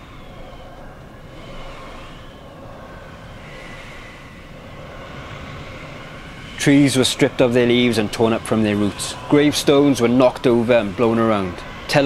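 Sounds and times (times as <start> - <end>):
faint wavering high tones: 0.0 - 12.0
rumbling rushing noise: 0.0 - 12.0.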